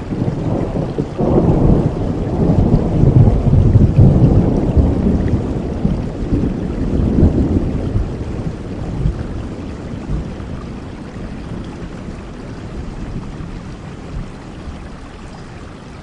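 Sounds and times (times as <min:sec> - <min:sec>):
thunder rumbling: 0:00.0 - 0:15.0
heavy rain: 0:00.0 - 0:16.0.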